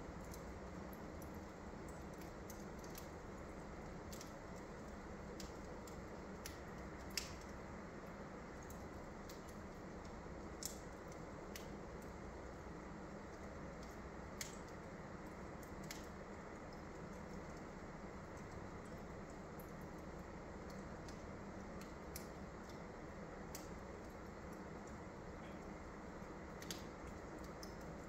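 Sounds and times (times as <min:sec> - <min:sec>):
faint steady hiss: 0:00.0 - 0:28.0
wood fire crackling and popping: 0:00.0 - 0:28.0.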